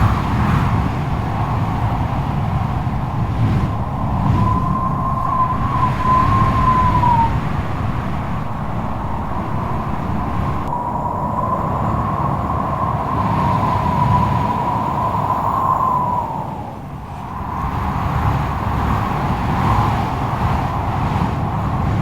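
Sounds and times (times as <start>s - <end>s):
howling wind whistle: 0.0s - 22.0s
strong wind blowing: 0.0s - 22.0s.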